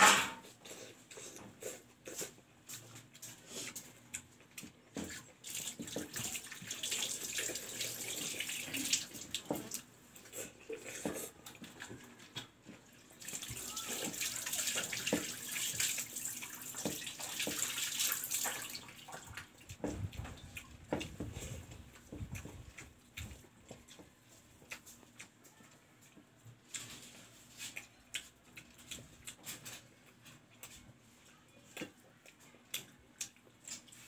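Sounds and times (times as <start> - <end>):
wet chewing: 0.4 - 31.0, 31.6 - 34.0.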